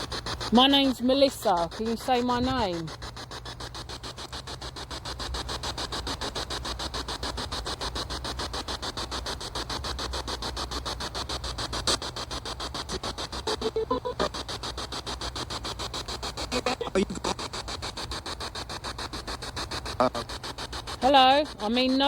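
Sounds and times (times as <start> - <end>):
chopped radio static: 0.0 - 22.0
snatch of a voice: 0.0 - 22.0.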